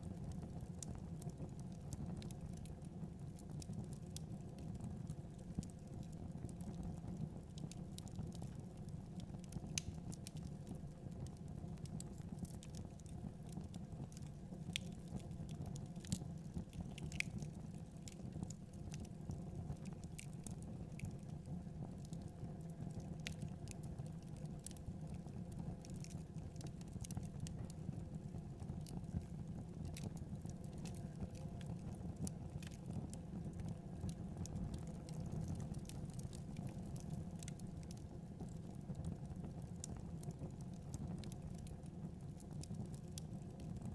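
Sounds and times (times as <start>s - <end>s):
wood fire crackling and popping: 0.1s - 43.9s.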